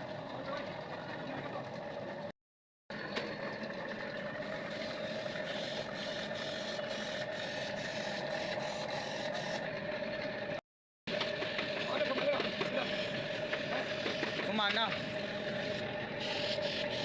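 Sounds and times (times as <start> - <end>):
machine humming: 2.9 - 17.0.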